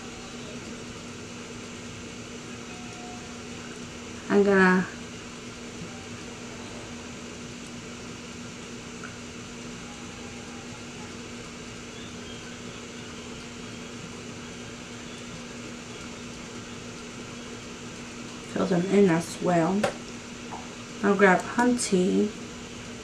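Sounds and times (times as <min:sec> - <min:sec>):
constant low hum: 0:00.0 - 0:23.0
room hiss: 0:00.0 - 0:23.0.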